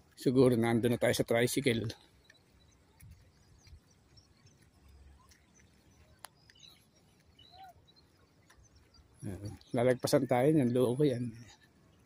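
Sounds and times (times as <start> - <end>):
faint bird chirps: 0.3 - 12.0.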